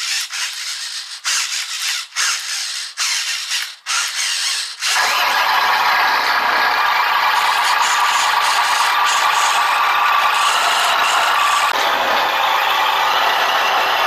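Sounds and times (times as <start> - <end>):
steady mechanical running: 0.0 - 14.0
steering servos whirring: 0.0 - 14.0.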